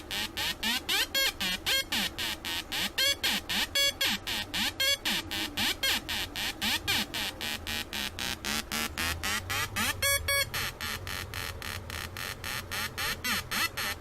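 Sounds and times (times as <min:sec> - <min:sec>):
pulsing electronic buzz sliding pitch: 0:00.0 - 0:14.0.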